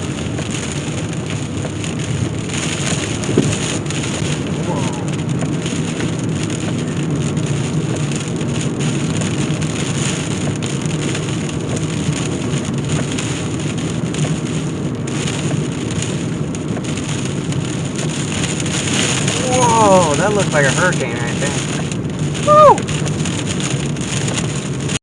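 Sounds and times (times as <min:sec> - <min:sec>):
heavy rain beating on a car: 0:00.0 - 0:25.0.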